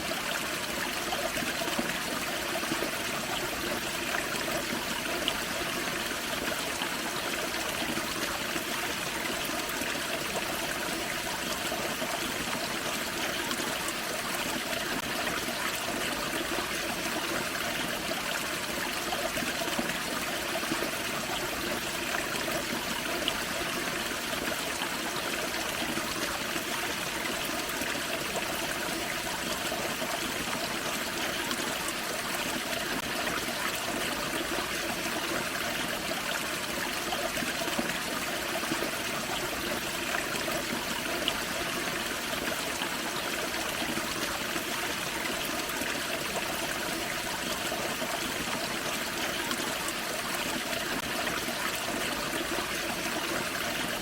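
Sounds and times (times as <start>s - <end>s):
creek over small waterfall: 0.0s - 54.0s.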